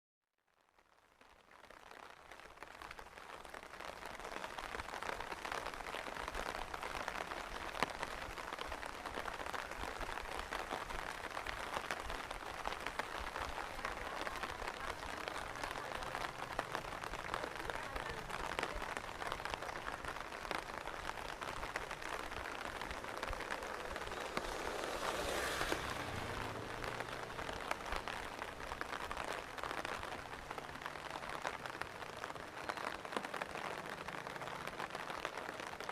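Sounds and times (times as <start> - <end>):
close raindrop ticks: 0.7 - 35.9
steady rain hiss: 1.1 - 35.9.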